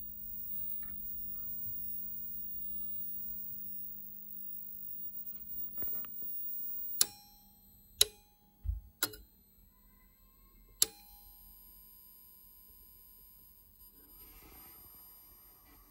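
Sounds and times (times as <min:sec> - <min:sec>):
faint steady tone: 0:00.0 - 0:15.9.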